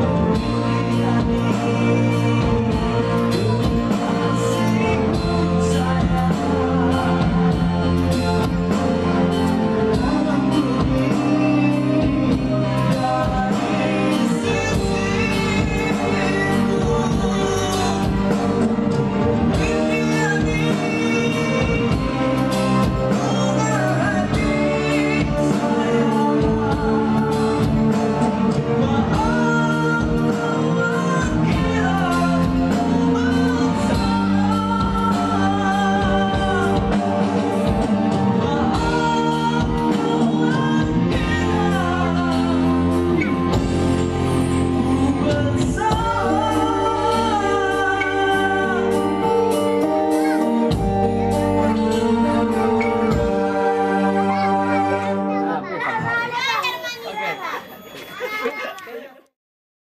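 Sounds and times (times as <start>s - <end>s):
man singing into a microphone: 0.0s - 54.8s
keyboard backing with steady beat: 0.0s - 58.8s.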